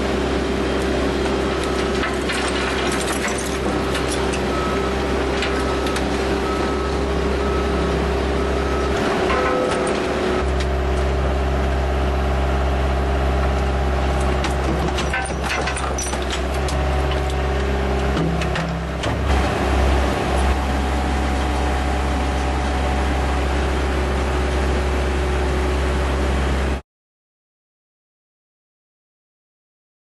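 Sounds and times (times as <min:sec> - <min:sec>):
crusher drive humming: 0:00.2 - 0:26.7.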